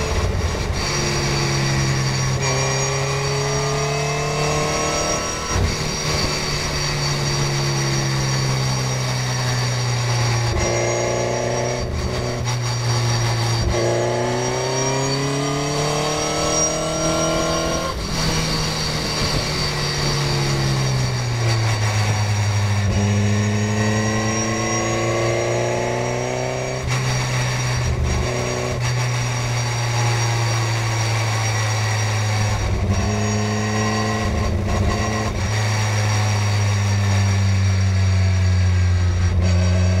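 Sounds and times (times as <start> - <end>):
race car engine onboard: 0.0 - 40.0.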